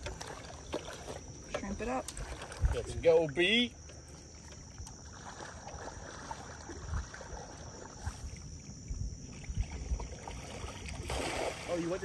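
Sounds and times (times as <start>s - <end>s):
water sloshing around legs: 0.0s - 12.0s.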